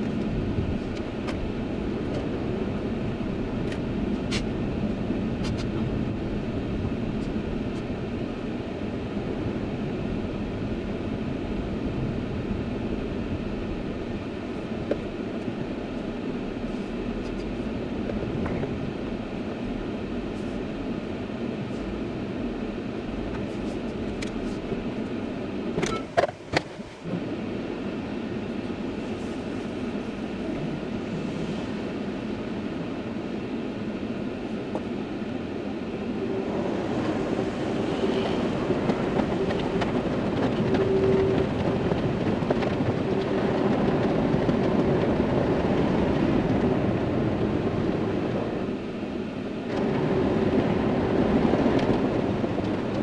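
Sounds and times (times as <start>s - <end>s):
low rumble in car cabin: 0.0s - 53.0s.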